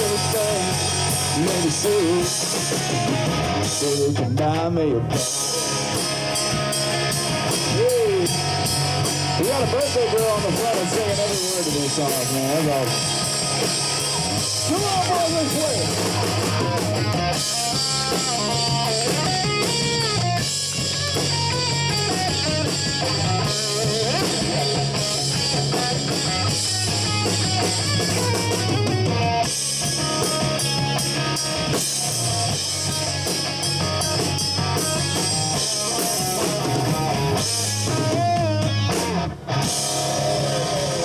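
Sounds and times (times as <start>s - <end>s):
drum kit: 0.0s - 41.0s
electric bass: 0.0s - 41.0s
guitar: 0.0s - 41.0s.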